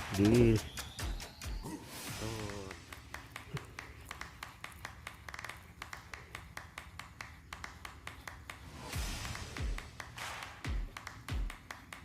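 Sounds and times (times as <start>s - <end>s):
rapid sharp clicks: 0.0s - 12.0s.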